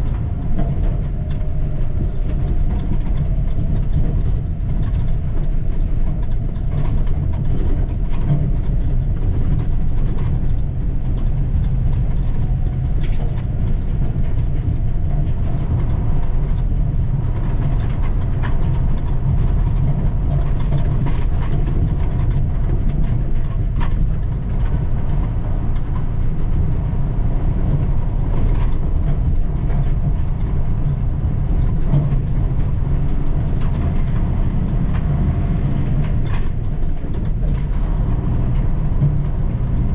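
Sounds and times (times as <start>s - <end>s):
truck clatter and rattles: 0.0s - 39.9s
truck diesel engine running: 0.0s - 39.9s.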